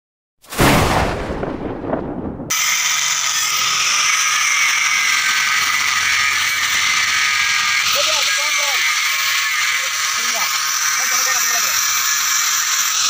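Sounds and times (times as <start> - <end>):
grinder screeching on steel: 2.5 - 13.0.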